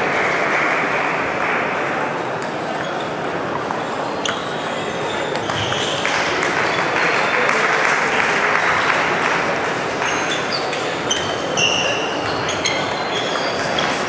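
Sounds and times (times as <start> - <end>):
babble of background voices: 0.0 - 14.0
ping-pong balls clicking: 0.2 - 9.4, 10.0 - 14.0.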